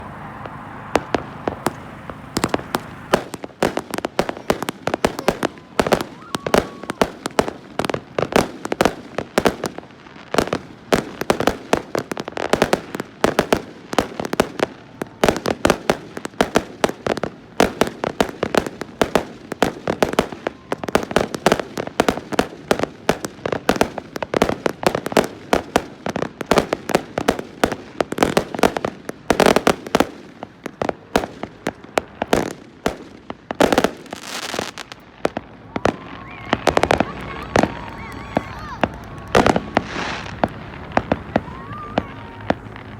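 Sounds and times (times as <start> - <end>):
fireworks and firecrackers banging: 0.0 - 42.9.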